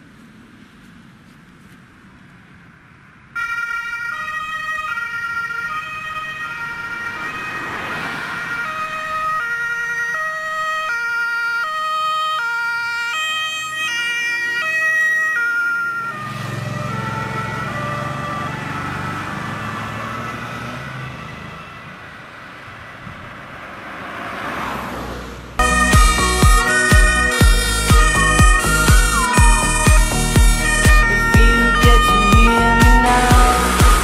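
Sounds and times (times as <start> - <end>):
car engine and tyre noise: 0.0 - 34.0
two-tone emergency siren: 3.4 - 22.2, 25.6 - 34.0.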